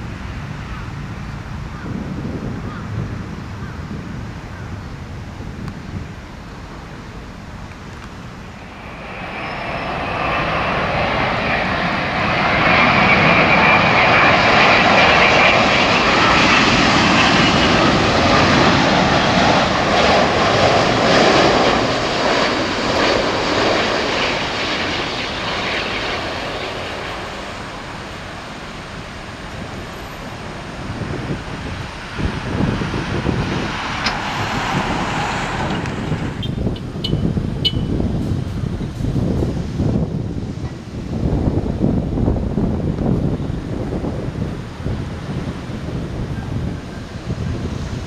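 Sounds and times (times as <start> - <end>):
jet engines roaring: 0.0 - 48.0
low wind rumble: 0.0 - 48.0.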